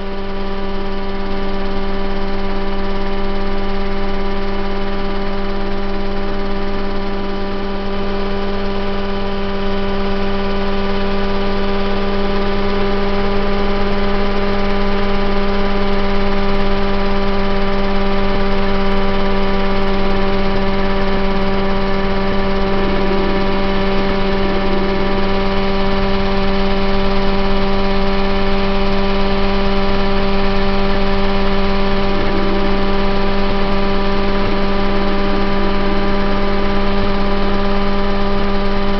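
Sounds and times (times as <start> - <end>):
helicopter engine running: 0.0 - 38.9.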